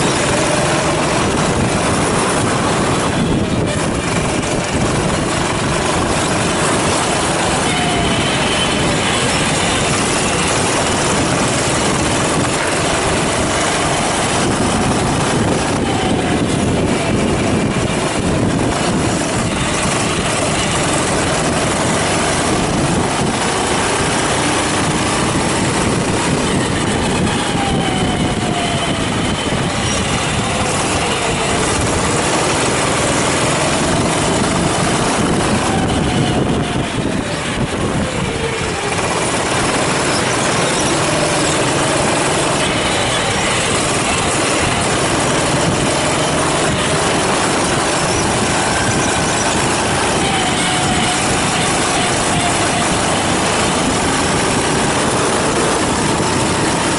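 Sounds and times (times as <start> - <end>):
go-kart engines: 0.0 - 56.9.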